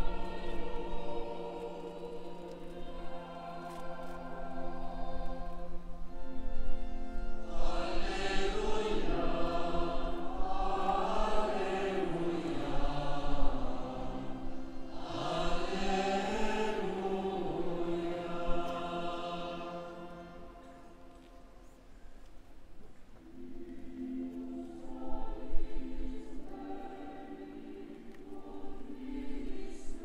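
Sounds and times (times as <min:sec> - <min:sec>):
choir singing chant: 0:00.0 - 0:21.8, 0:23.2 - 0:30.0.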